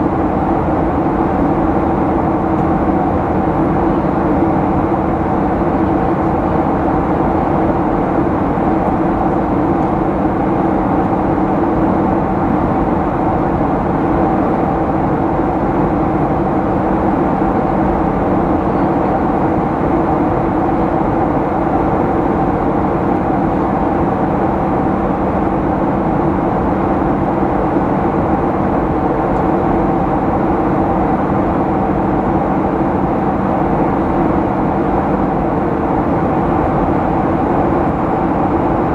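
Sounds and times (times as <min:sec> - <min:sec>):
airplane cabin air rush: 0:00.0 - 0:38.9
jet engines humming: 0:00.0 - 0:38.9.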